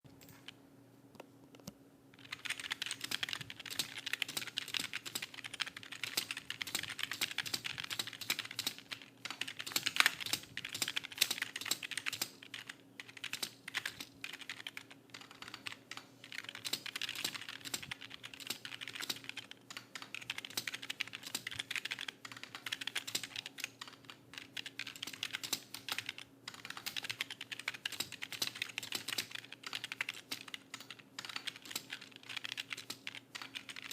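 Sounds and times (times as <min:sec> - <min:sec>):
fast typing on keyboard: 0:02.2 - 0:33.9.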